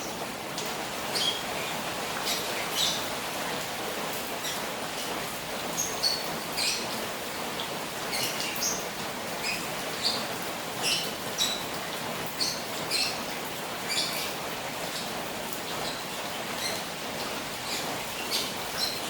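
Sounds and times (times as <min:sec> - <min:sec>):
rain falling on a pond: 0:00.0 - 0:19.0.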